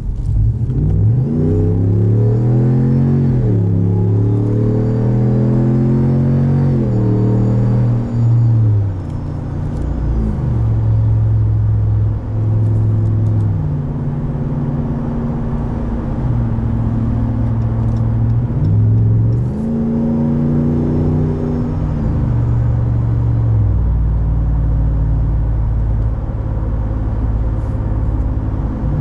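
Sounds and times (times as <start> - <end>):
truck engine running while driving: 0.0 - 29.0.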